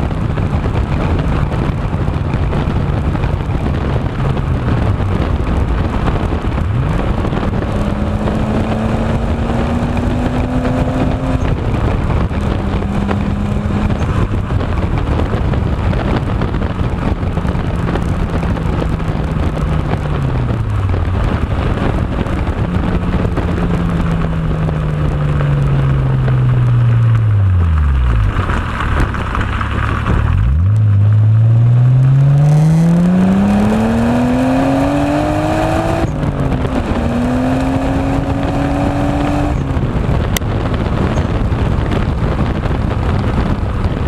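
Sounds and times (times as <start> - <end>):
car engine revving: 0.0 - 44.0
wind noise on microphone: 0.0 - 44.0.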